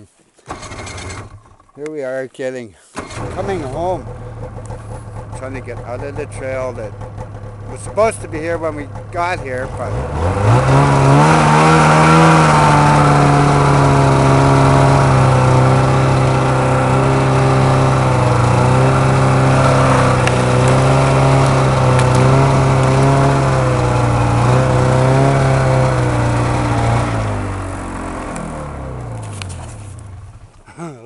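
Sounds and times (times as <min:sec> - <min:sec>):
snowmobile engine revving: 0:00.5 - 0:01.5, 0:03.0 - 0:31.0.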